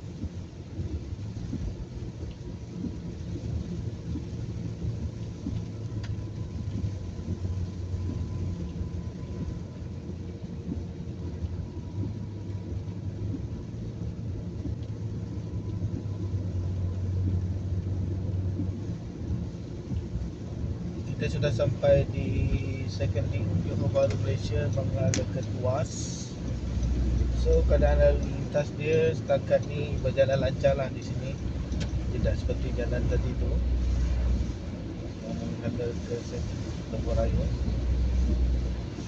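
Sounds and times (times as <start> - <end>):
engine and tyre rumble: 0.0 - 39.0
rain on car: 0.0 - 39.0.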